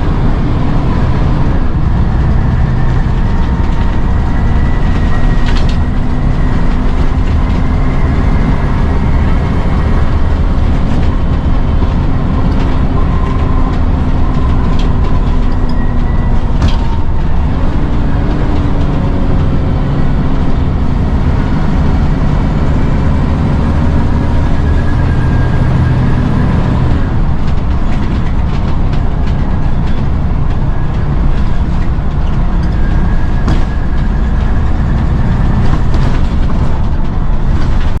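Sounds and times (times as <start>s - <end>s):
rattles: 0.0s - 21.1s, 27.1s - 38.0s
bus engine and road rumble: 0.0s - 38.0s.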